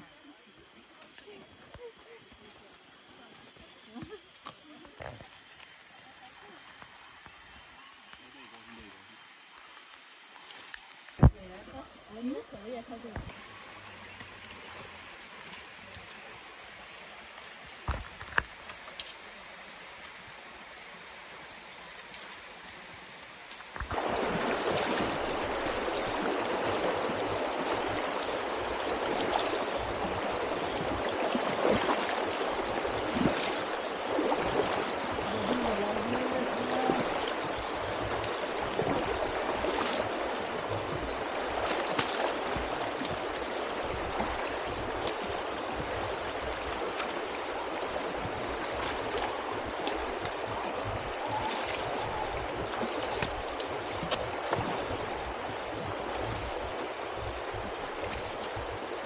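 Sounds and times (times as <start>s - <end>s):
feet wading through water: 0.0s - 59.0s.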